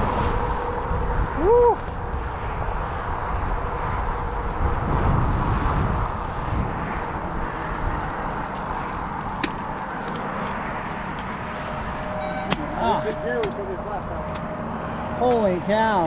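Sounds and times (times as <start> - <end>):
distant freeway traffic: 0.0 - 16.0
wind buffeting microphone: 0.0 - 16.0.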